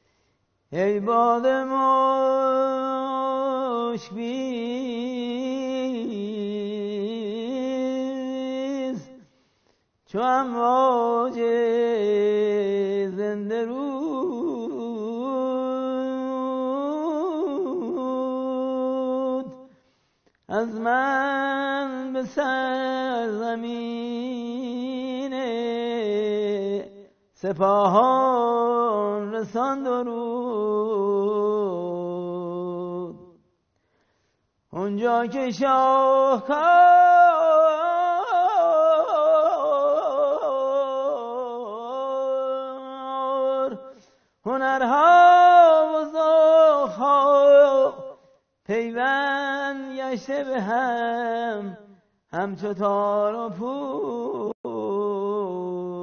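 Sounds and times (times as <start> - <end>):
man singing unaccompanied: 0.7 - 9.3, 10.1 - 19.8, 20.5 - 33.4, 34.7 - 56.0.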